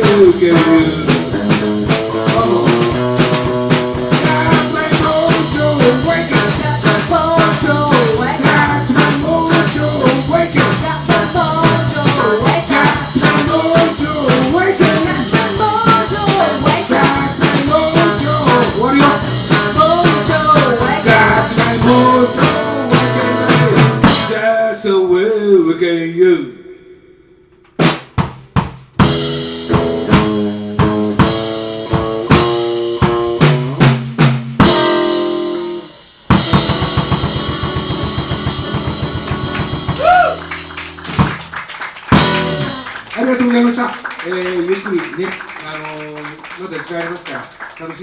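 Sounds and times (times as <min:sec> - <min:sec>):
steady drum beat: 0:00.0 - 0:24.5, 0:27.8 - 0:48.0.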